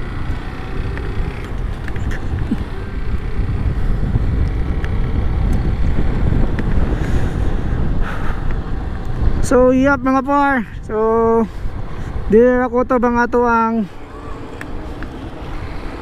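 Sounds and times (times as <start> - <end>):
motorcycle engine running: 0.0 - 16.0
road noise: 0.0 - 16.0
wind buffeting microphone: 0.0 - 16.0.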